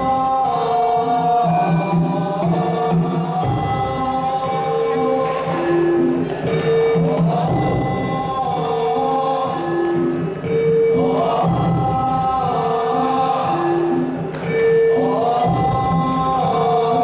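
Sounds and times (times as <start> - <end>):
percussion ensemble: 0.0 - 17.0.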